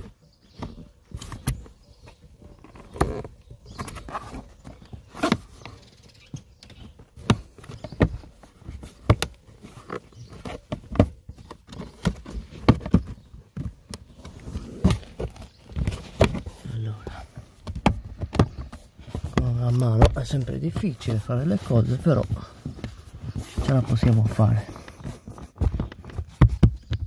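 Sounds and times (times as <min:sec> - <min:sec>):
hand rubbing plastic: 0:00.0 - 0:27.0.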